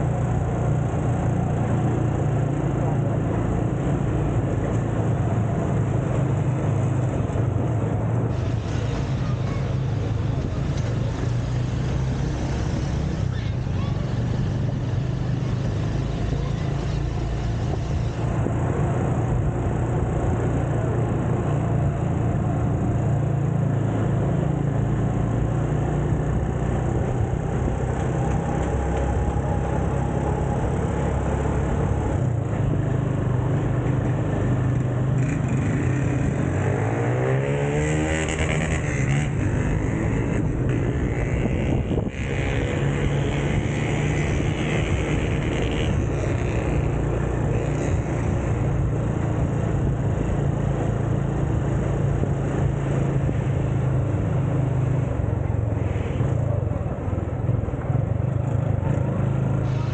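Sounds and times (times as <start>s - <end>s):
motorcycle engine running: 0.0s - 55.7s.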